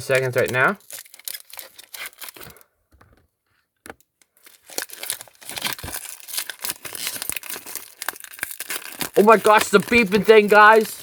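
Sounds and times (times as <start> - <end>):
wrapper crinkling and tearing: 0.0 - 2.6, 4.3 - 11.0.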